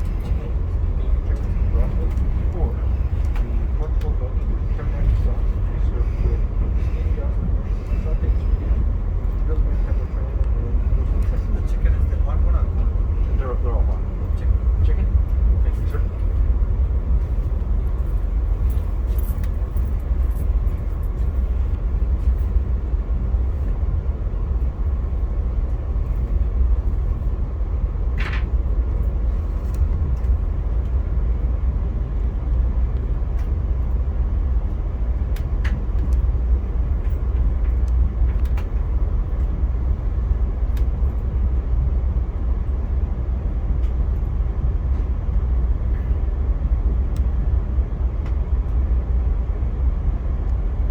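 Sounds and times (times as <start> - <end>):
train rumble from inside coach: 0.0 - 50.9.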